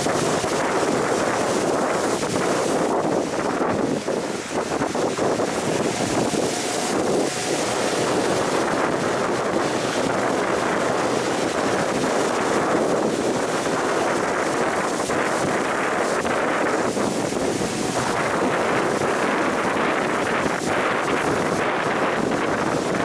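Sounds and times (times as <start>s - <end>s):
boat engine noise: 0.0s - 23.0s
water rushing: 0.0s - 23.0s
wind buffeting microphone: 0.0s - 23.0s.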